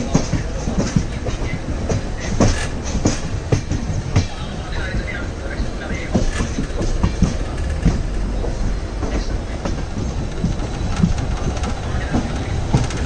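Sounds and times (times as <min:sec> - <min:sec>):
train rumbling on track: 0:00.0 - 0:13.0
wheels knocking over rails: 0:00.1 - 0:04.3, 0:06.0 - 0:13.0.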